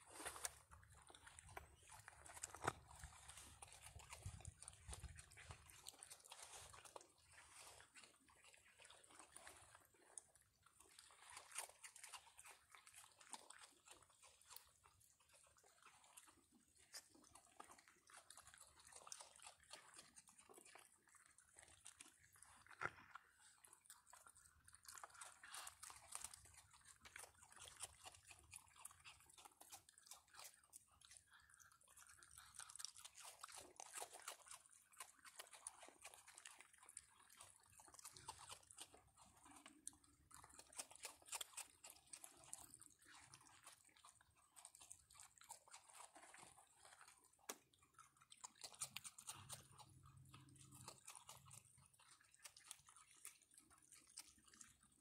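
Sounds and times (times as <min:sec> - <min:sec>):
raccoons crunching dry food: 0:00.0 - 0:55.0.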